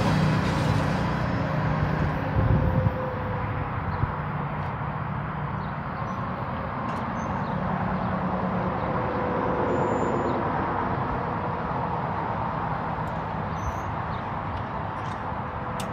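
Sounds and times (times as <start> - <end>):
vehicle engines and road noise: 0.0 - 15.9.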